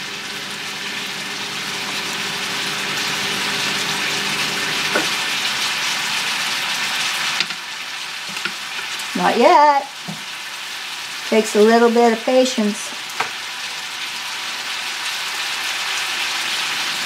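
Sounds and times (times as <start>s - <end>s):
food sizzling in a skillet: 0.0s - 17.0s.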